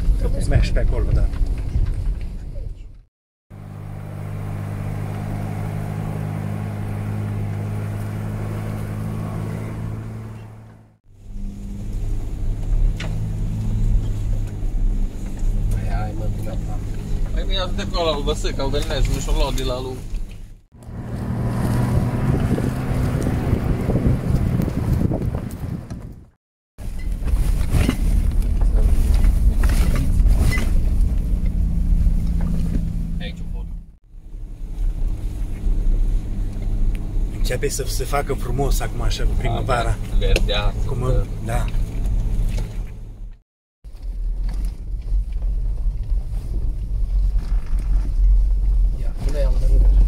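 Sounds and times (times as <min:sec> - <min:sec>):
off-road vehicle engine running: 0:00.0 - 0:50.0
road noise: 0:00.0 - 0:50.0.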